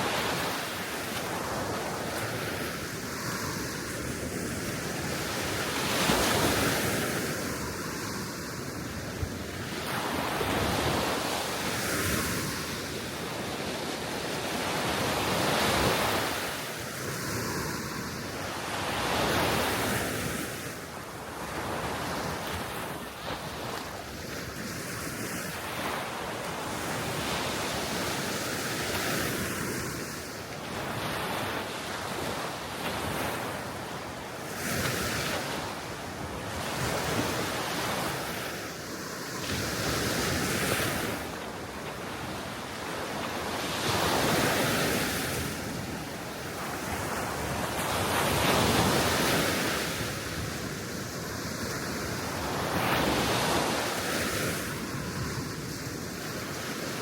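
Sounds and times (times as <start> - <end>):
sea waves washing ashore: 0.0 - 57.0
wind: 0.0 - 57.0.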